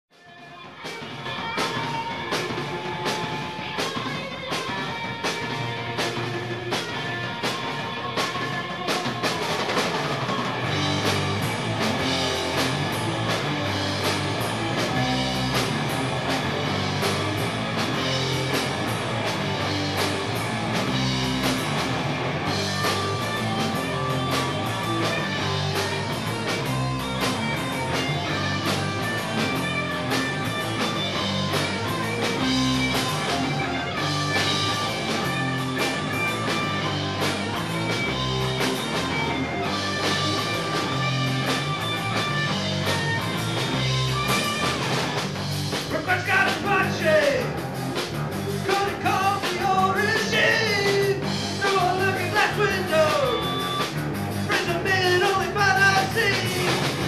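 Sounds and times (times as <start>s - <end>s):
bass guitar: 0.1s - 57.0s
electric guitars: 0.1s - 57.0s
drum kit with cymbal strokes: 0.4s - 57.0s.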